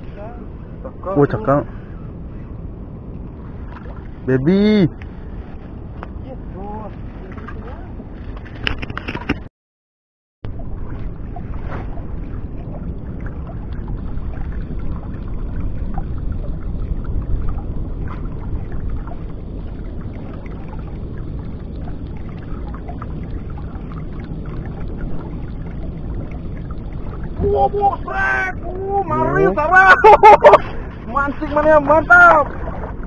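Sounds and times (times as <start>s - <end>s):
water lapping against boat hull: 0.0s - 9.5s, 10.5s - 33.0s
wind rumble on microphone: 0.0s - 9.5s, 10.4s - 33.0s.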